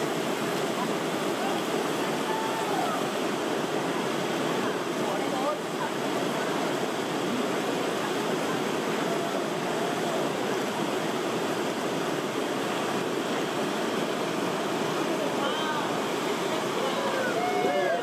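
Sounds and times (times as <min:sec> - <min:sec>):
whitewater rushing over rock: 0:00.0 - 0:18.0.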